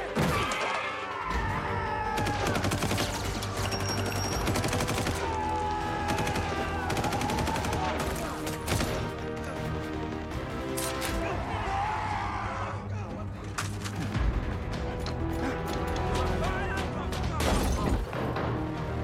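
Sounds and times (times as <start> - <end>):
film score music: 0.0 - 19.0.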